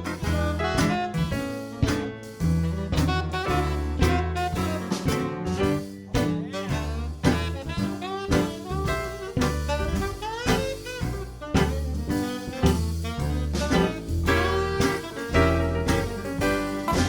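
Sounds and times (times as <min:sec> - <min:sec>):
swing jazz band playing: 0:00.0 - 0:17.0.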